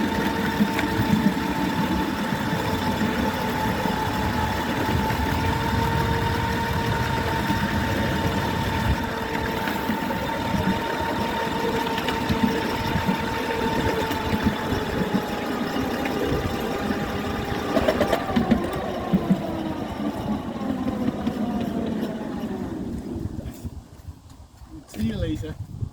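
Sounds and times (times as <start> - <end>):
wheel and track clicks and knocks: 0.0 - 23.2
electric locomotive motor whine: 0.0 - 23.8.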